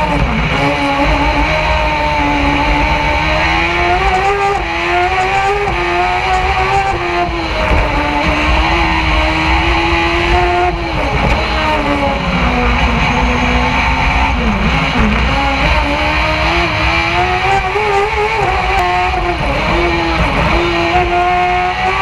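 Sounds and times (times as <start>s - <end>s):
race car engine at high revs: 0.0s - 22.0s.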